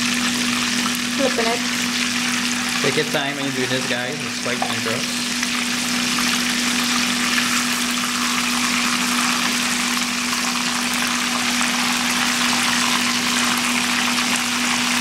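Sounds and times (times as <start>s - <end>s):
bubbling sizzle of deep-frying: 0.0s - 15.0s.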